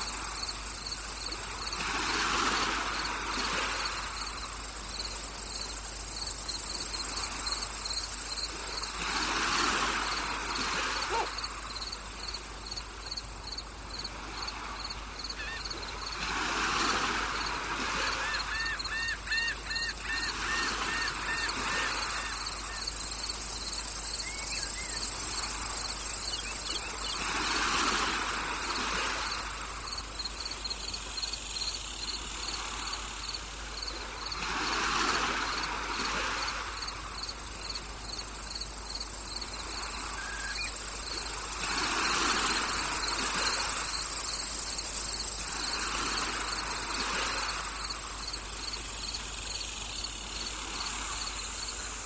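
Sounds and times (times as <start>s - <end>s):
cricket chirping: 0.0s - 52.0s
high-pitched insect trill: 0.0s - 52.0s.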